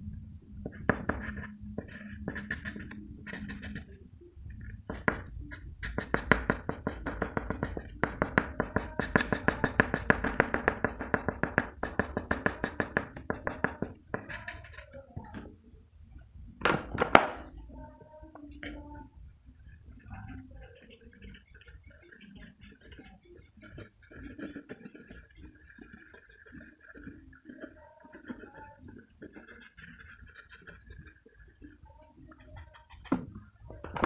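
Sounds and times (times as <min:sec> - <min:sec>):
pencil scratching on paper: 0:00.6 - 0:34.0.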